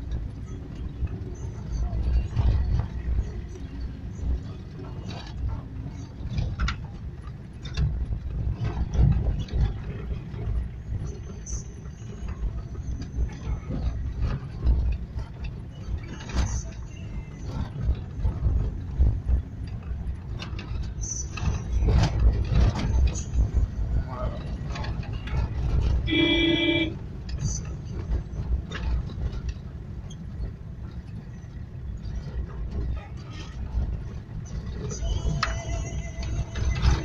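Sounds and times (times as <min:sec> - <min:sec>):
engine and tyre rumble: 0:00.0 - 0:37.0
vehicle knocks and rattles: 0:00.0 - 0:37.0.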